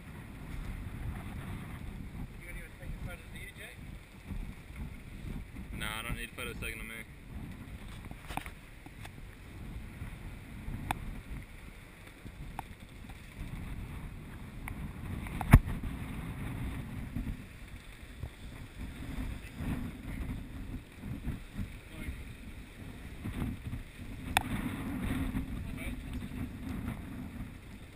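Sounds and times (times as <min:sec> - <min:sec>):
water rushing along hull: 0:00.0 - 0:27.9
wind buffeting microphone: 0:00.0 - 0:27.9.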